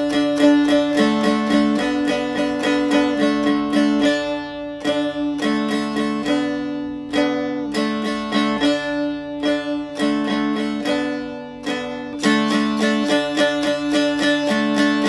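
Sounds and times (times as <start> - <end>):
plucked dulcimer tune: 0.0 - 15.0.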